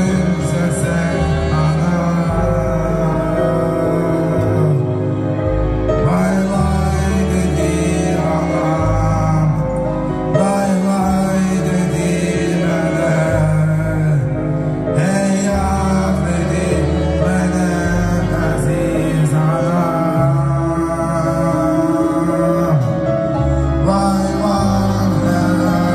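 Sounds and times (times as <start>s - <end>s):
backing track with bass: 0.0s - 25.9s
man singing into a microphone: 0.0s - 25.9s.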